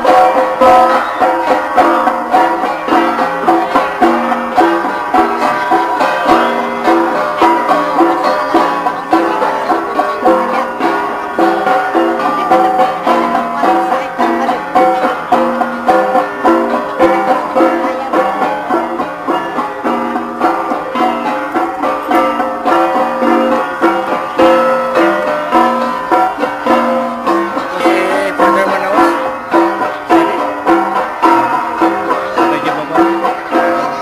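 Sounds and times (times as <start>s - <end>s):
bronze gong ensemble playing: 0.0s - 34.0s.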